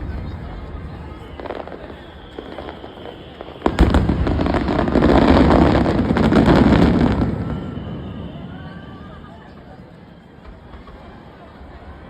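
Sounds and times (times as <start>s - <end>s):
fireworks bursting and crackling: 0.0s - 11.2s.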